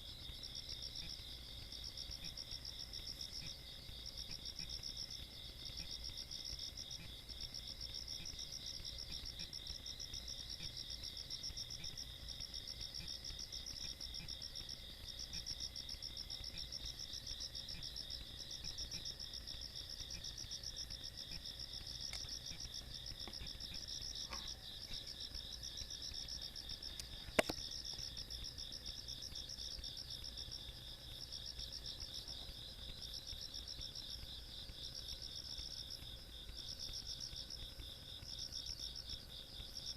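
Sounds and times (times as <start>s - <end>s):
faint steady whine: 0.0s - 39.9s
insects chirping in trills: 0.0s - 39.9s.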